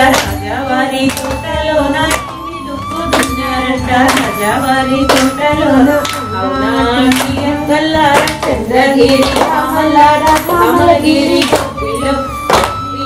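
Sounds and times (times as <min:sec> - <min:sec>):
people clapping in time: 0:00.0 - 0:12.9
song with singing: 0:00.0 - 0:13.0.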